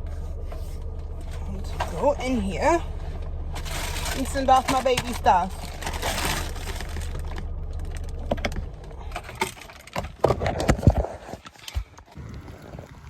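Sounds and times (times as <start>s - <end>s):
car engine humming: 0.0s - 12.2s.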